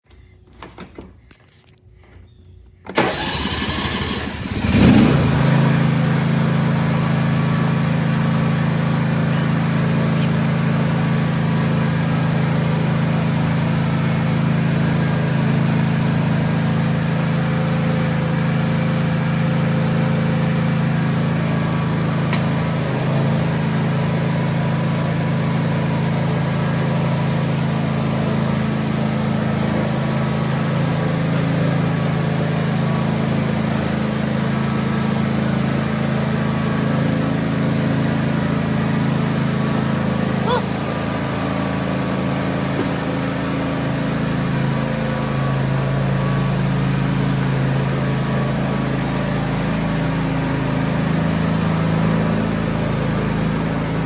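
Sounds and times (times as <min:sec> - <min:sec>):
lawn tractor engine running: 0:00.0 - 0:54.0.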